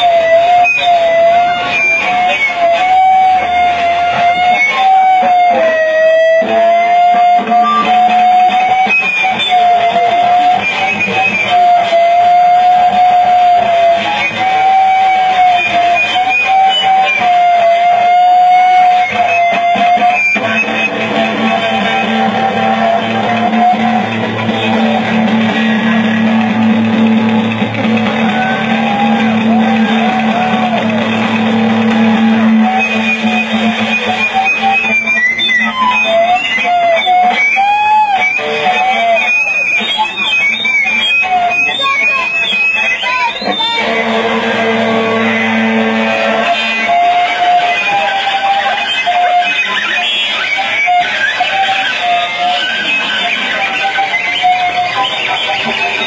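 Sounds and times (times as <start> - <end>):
loud electric guitar: 0.0 - 56.0.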